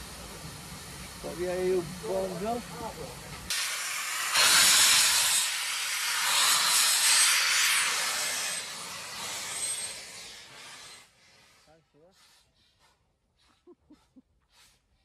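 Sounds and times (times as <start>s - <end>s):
steam locomotive hissing steam: 0.0s - 13.8s.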